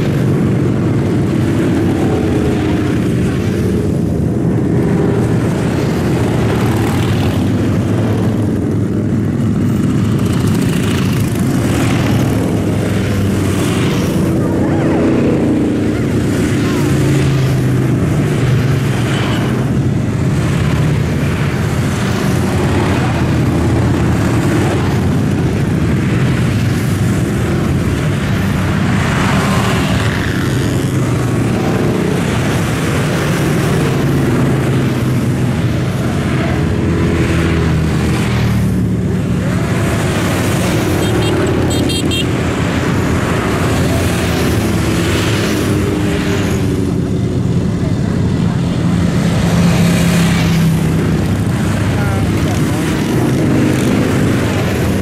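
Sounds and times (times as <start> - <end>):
motorcycles and cars passing: 0.0 - 55.0.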